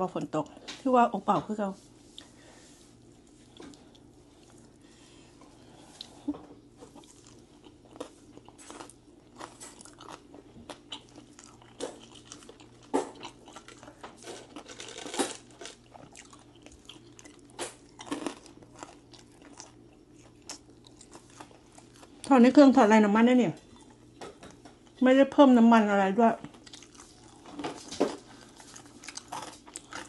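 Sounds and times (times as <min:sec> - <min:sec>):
chewing crispy fried chicken: 0:02.1 - 0:22.7, 0:23.6 - 0:25.0, 0:26.4 - 0:30.0.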